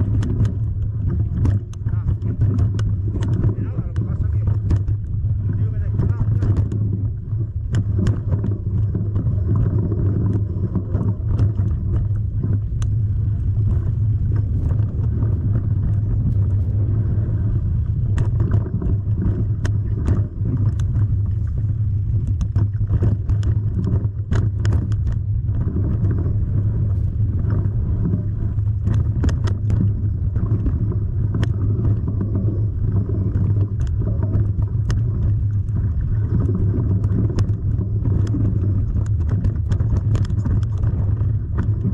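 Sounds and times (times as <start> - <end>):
sharp clicks and knocks: 0.0 - 13.0, 18.0 - 21.5, 22.1 - 26.2, 27.5 - 41.9.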